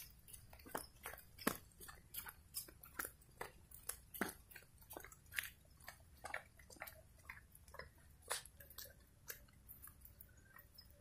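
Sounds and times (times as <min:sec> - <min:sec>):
faint footsteps: 0:00.0 - 0:11.0.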